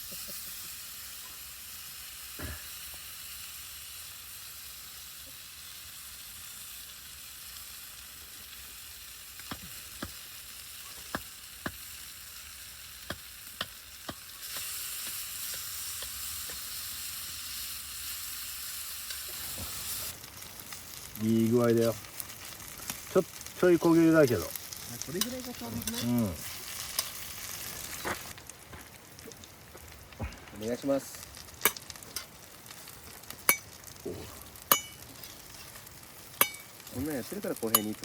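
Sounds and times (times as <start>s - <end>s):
food sizzling on a fire: 0.0s - 38.0s.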